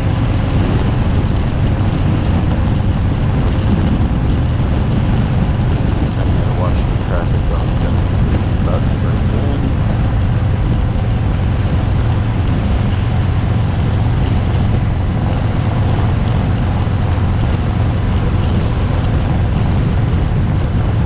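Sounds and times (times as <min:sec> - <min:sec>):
motorcycle engine cruising: 0:00.0 - 0:21.0
wind noise on microphone: 0:00.0 - 0:21.0.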